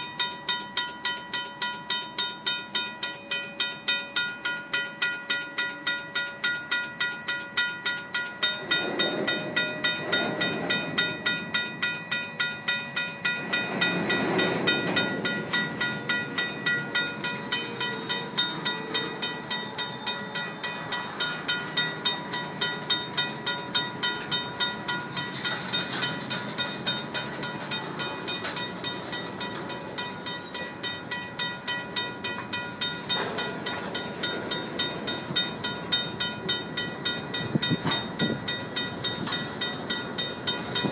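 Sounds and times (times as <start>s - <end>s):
mechanical crossing bell ringing: 0.0s - 40.9s
train wheels rumbling on rails: 0.0s - 40.9s.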